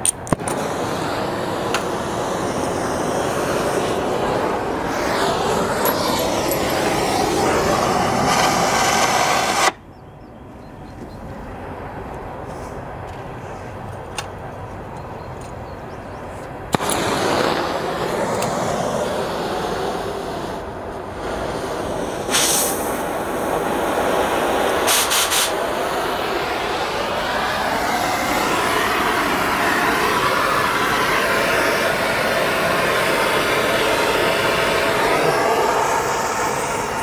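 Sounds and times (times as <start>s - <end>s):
cutting torch hissing: 0.3s - 9.8s, 16.7s - 37.0s.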